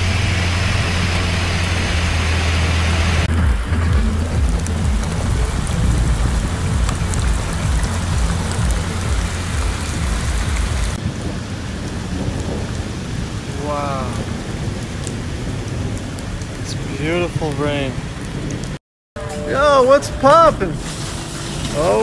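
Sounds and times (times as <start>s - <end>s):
deep rumble: 0.0s - 22.0s
heavy rain on pavement and foliage: 0.0s - 22.0s.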